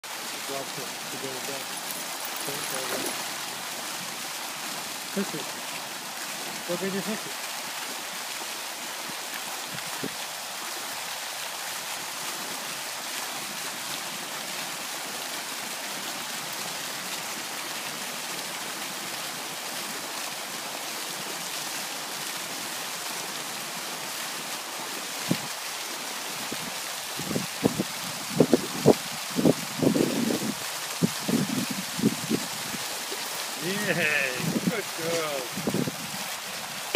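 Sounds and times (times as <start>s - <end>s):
fountain water splashing: 0.0s - 36.9s.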